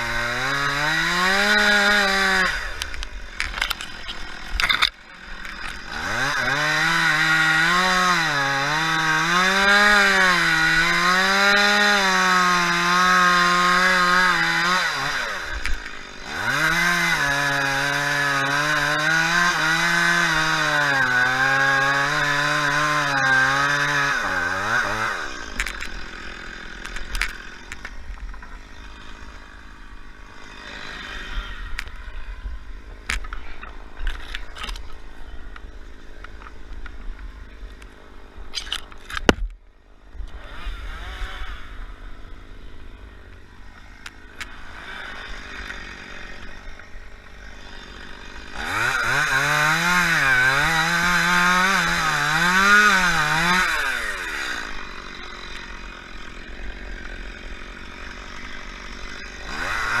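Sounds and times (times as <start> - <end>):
chainsaw revving and cutting: 0.0 - 60.0.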